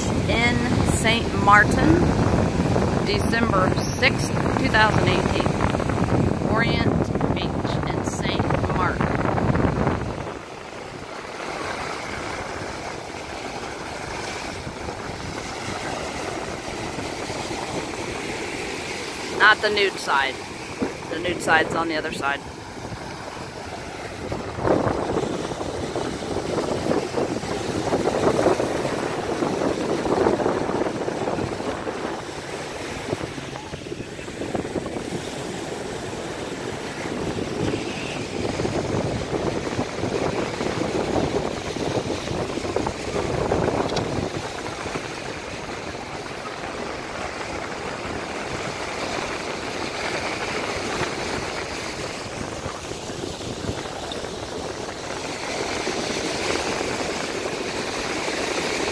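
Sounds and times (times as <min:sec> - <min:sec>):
small waves washing over sand: 0:00.0 - 0:58.9
wind gusting across microphone: 0:00.0 - 0:58.9.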